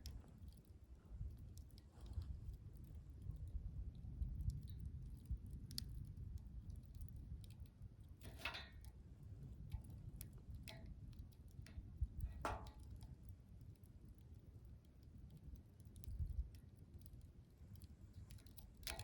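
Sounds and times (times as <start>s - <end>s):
campfire rumble: 0.0s - 19.0s
fire pops and crackles: 0.0s - 19.0s.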